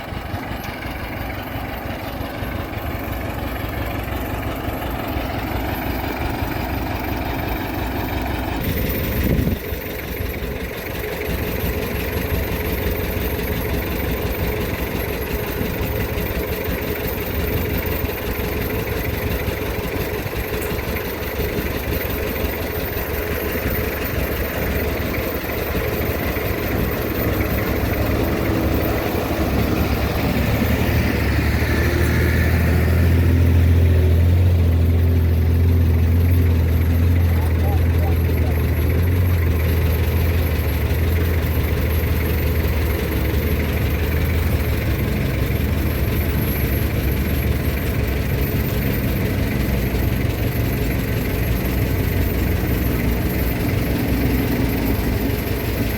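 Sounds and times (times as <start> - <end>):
deep engine drone: 0.0 - 55.9
heavy machinery diesel engines: 0.0 - 55.9.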